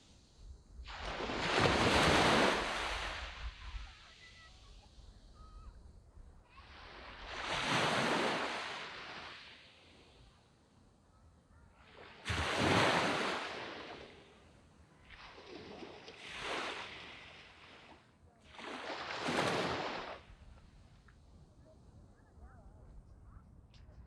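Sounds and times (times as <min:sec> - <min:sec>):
waves breaking on a beach: 0:00.0 - 0:22.4.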